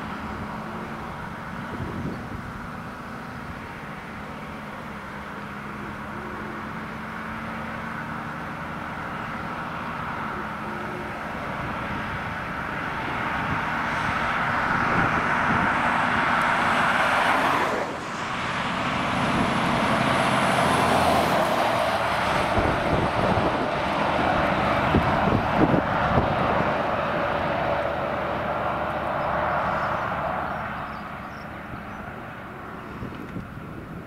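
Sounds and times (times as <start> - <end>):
engine and tyre noise: 0.0 - 34.0
vehicles driving past: 0.0 - 34.0.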